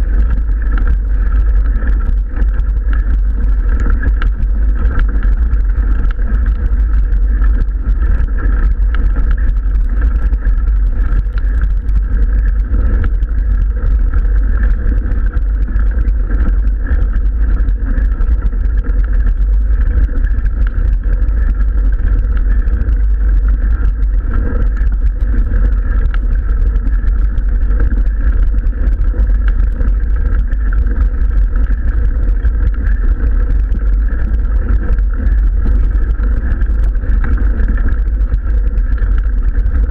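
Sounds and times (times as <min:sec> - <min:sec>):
bike tyres rolling on gravel: 0:00.0 - 0:39.9
wind buffeting microphone: 0:00.0 - 0:39.9.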